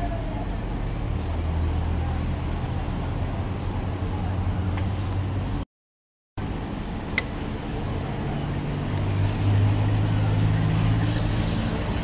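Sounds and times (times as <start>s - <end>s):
vehicle engine humming: 0.0s - 5.6s, 6.4s - 12.0s.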